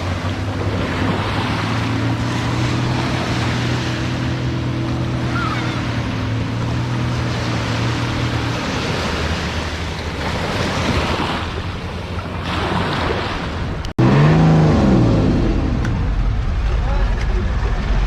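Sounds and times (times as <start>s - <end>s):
boat engine hum: 0.0s - 18.0s
rough sea waves: 0.0s - 18.0s
wind: 0.0s - 18.0s.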